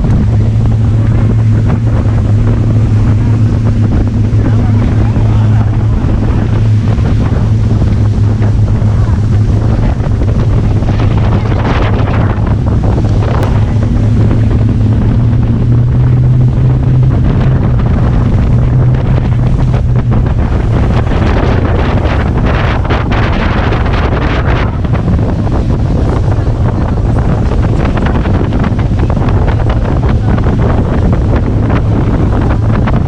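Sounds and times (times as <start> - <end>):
engine drone: 0.0 - 33.0
wind buffeting microphone: 0.0 - 33.0.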